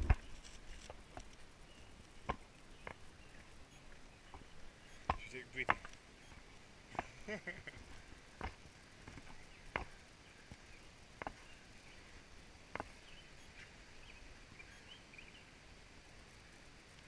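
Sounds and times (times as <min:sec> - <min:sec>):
small birds chirping: 0:00.0 - 0:16.4
outdoor forest ambience: 0:00.0 - 0:17.0.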